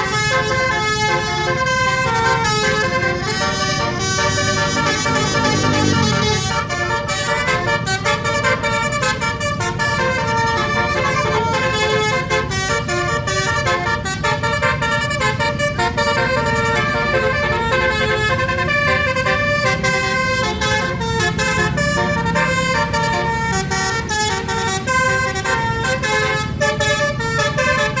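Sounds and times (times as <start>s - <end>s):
multi-tone bus horn melody: 0.0s - 28.0s.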